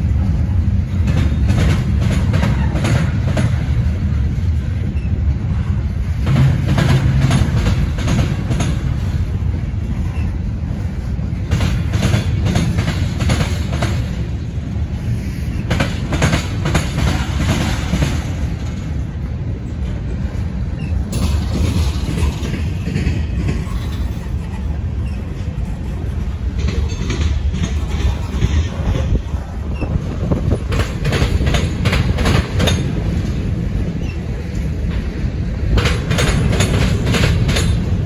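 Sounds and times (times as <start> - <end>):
train cars rumbling past: 0.0 - 38.0
wheel clacks on rail joints: 0.9 - 10.5, 11.2 - 14.5, 15.6 - 38.0.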